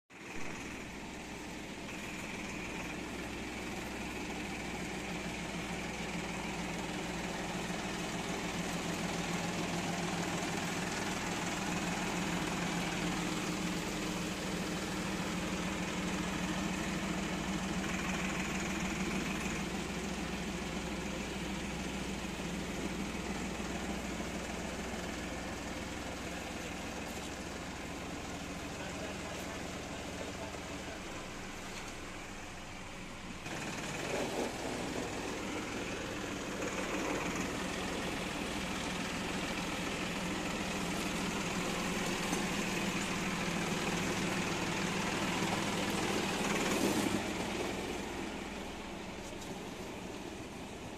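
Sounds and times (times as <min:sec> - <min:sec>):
tractor diesel engine running: 0:00.1 - 0:50.9.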